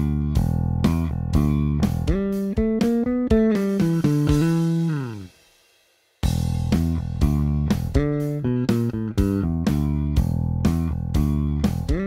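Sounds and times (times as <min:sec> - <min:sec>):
electric bass groove: 0:00.0 - 0:12.0.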